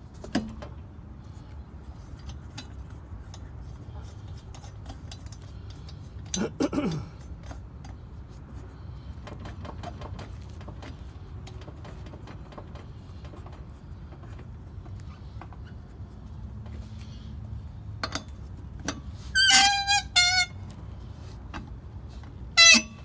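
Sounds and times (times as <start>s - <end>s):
lug nuts clicking and rattling: 0.1s - 23.0s.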